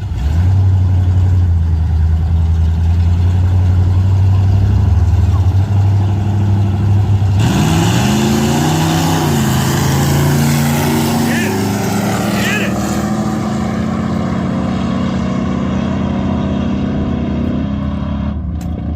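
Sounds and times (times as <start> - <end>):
drag car engines revving: 0.0 - 18.9.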